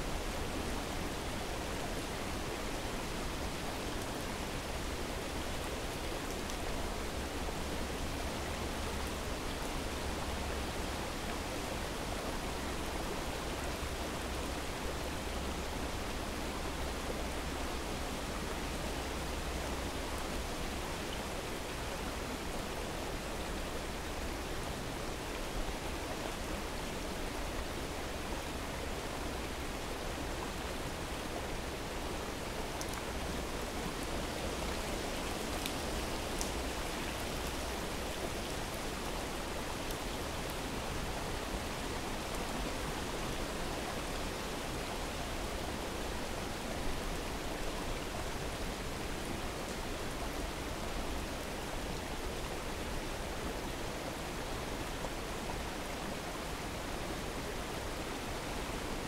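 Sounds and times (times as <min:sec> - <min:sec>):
rain falling: 0:00.0 - 0:59.0
waterfall and stream rushing: 0:00.0 - 0:59.0.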